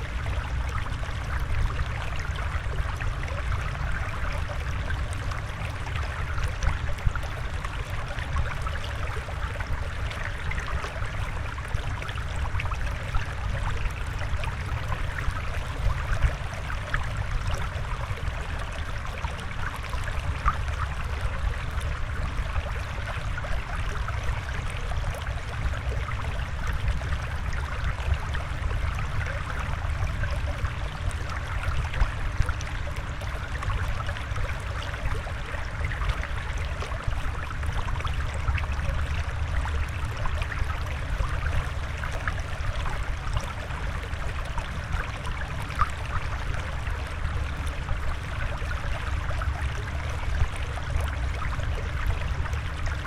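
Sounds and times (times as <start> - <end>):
water flowing and trickling: 0.0 - 53.0
water splashes and bubbles: 0.0 - 53.0.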